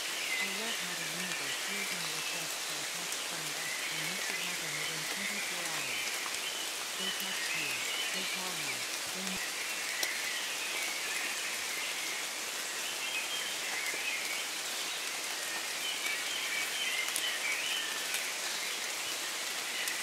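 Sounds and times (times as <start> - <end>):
rain drops ticking: 0.0 - 20.0
steady rain: 0.0 - 20.0.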